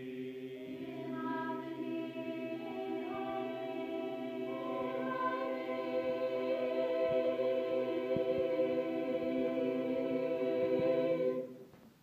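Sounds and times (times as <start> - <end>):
choir singing a cappella: 0.0 - 11.6.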